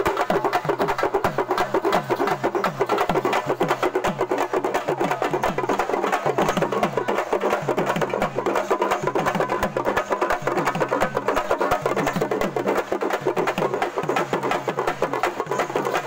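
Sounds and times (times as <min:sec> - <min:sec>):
frame drums beaten with sticks: 0:00.0 - 0:16.0.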